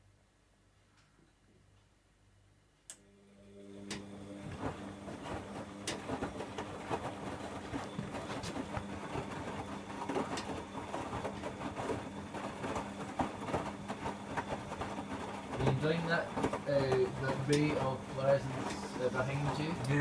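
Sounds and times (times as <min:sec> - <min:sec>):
washing machine motor hum: 0:02.9 - 0:20.0.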